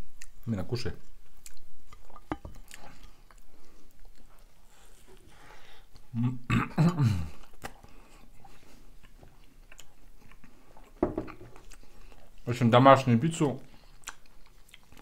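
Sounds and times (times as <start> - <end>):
chewing pizza: 0.0 - 5.3, 7.3 - 12.5, 13.4 - 15.0.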